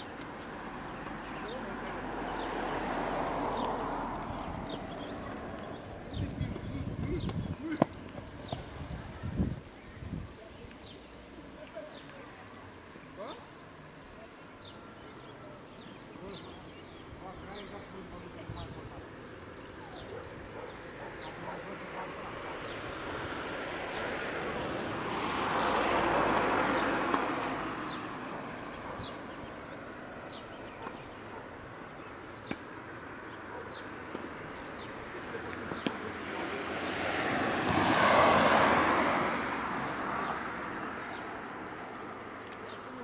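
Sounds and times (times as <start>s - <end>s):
cricket chirping: 0.0s - 7.3s, 11.2s - 24.7s, 25.3s - 35.6s, 39.0s - 43.0s
vehicles passing by: 0.0s - 43.0s.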